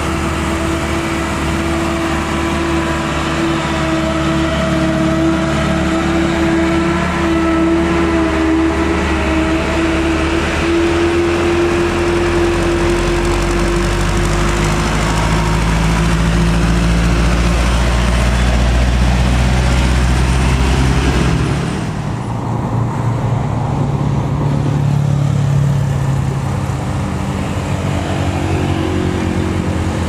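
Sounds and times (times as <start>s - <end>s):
other traffic: 0.0s - 30.0s
truck diesel engine climbing: 0.0s - 30.0s.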